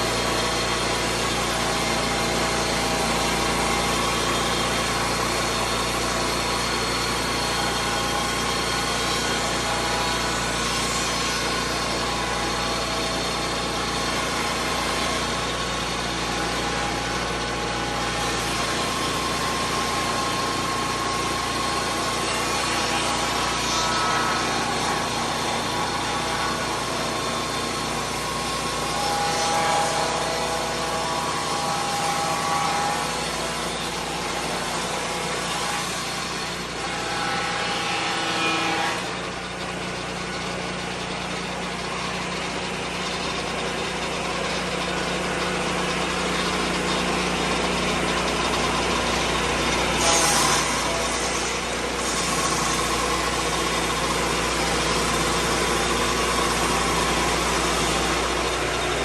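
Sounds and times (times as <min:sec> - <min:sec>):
sawmill petrol engine running: 0:00.0 - 0:37.0, 0:39.0 - 0:59.0.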